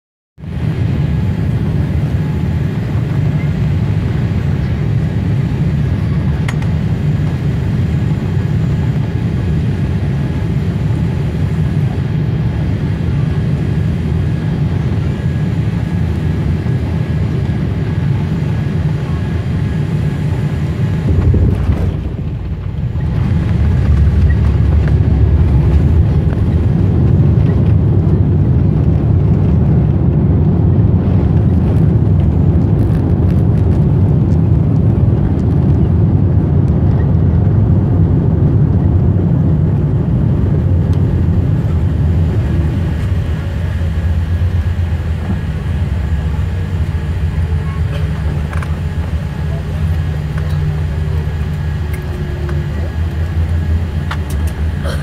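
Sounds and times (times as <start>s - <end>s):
airplane cabin roar: 0.4s - 55.0s
wheels rumbling on runway: 0.4s - 55.0s.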